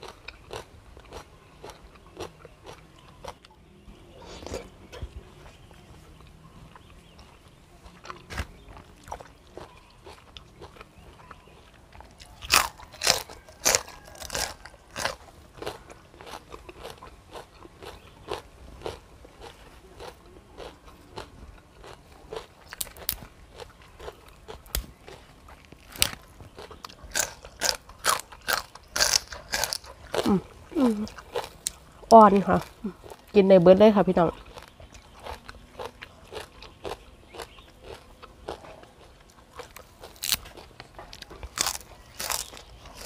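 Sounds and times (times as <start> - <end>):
person chewing crisp food: 0.0 - 33.4, 34.3 - 43.0.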